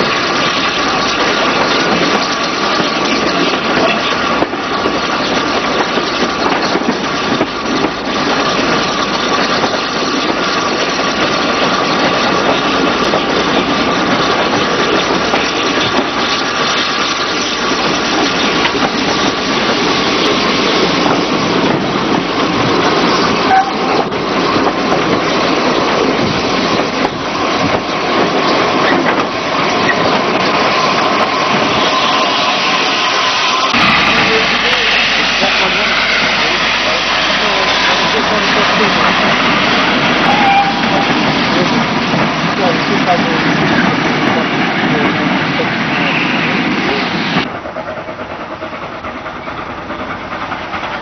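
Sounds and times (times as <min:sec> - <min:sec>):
train running noise from on board: 0:00.0 - 0:51.0.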